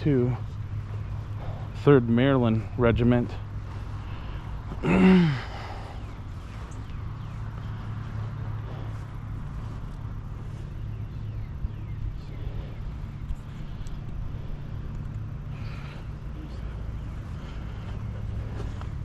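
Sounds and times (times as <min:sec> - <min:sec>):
birds chirping: 0:00.0 - 0:19.0
road traffic rumble: 0:00.0 - 0:19.0.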